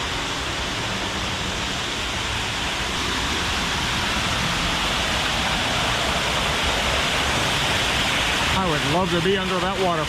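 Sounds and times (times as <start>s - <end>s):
waterfall pouring into a pool: 0.0s - 10.0s.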